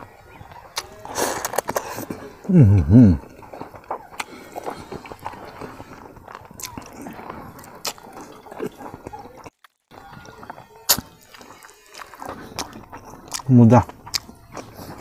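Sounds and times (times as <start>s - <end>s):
wet chewing and lip smacking: 0.3s - 15.0s.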